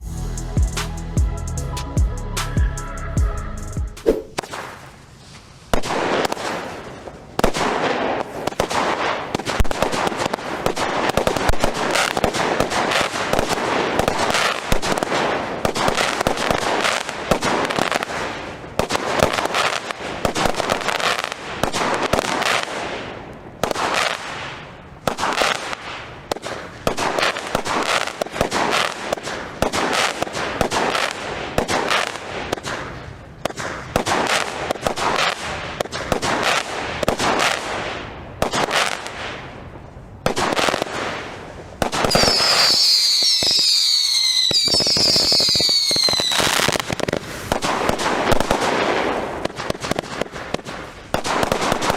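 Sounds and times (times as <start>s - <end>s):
fireworks crackling and banging: 4.0s - 51.9s.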